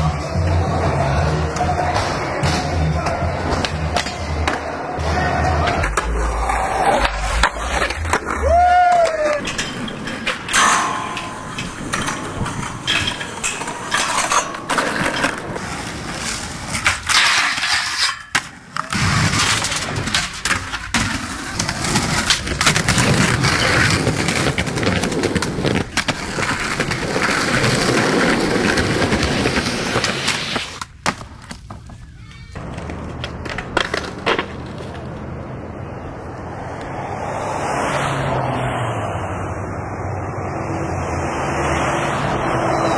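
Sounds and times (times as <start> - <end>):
skateboard wheels rolling on concrete: 0.0 - 42.9
skateboard grinding on rails: 0.1 - 35.8.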